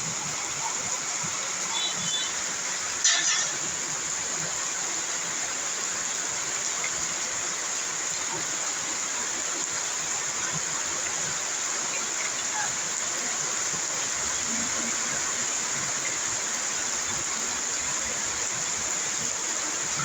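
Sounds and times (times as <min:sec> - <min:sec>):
rain falling steadily: 0:00.0 - 0:20.0.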